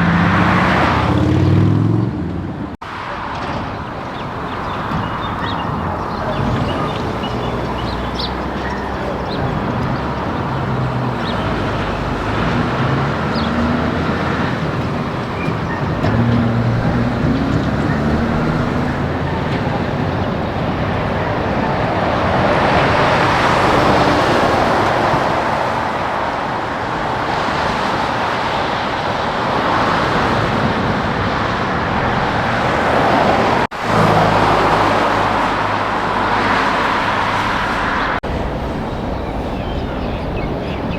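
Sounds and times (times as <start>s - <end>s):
truck engine drone: 0.0s - 26.6s, 30.0s - 40.9s
tyre and road noise: 0.0s - 40.9s.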